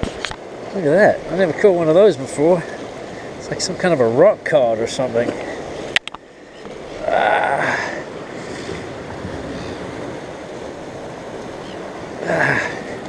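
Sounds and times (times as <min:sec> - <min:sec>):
surf washing against rocks: 0:00.0 - 0:13.0.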